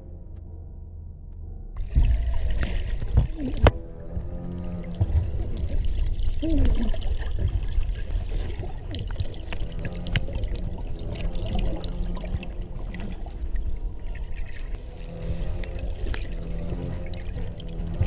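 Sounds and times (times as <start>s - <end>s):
steady low rumble: 0.0s - 18.0s
muffled underwater sloshing: 1.8s - 18.0s.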